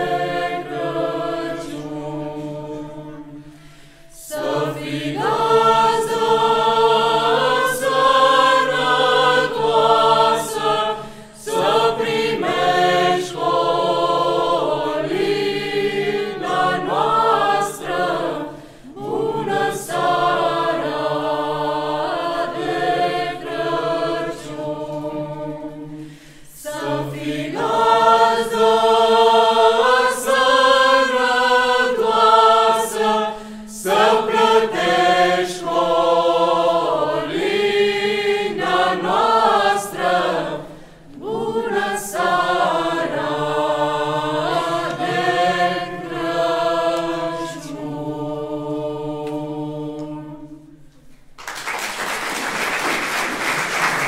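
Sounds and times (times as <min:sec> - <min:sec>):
choir singing a carol: 0:00.0 - 0:51.0.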